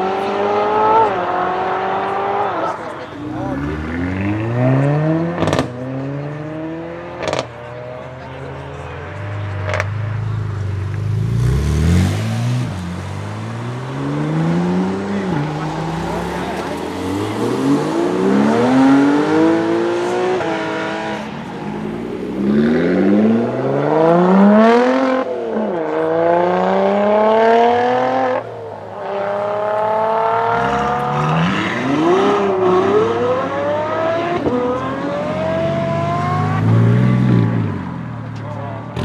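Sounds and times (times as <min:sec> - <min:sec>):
car accelerating through gears: 0:00.0 - 0:07.9, 0:11.0 - 0:38.2.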